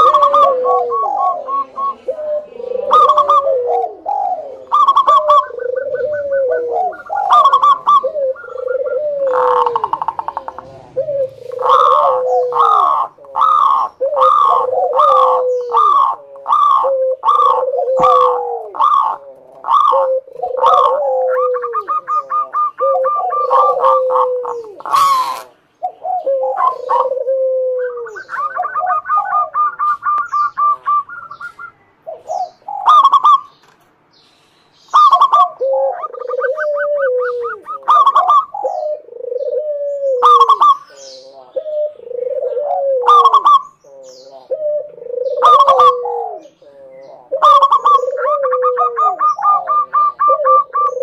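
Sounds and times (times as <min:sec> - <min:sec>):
dove calling: 0:00.0 - 0:51.0.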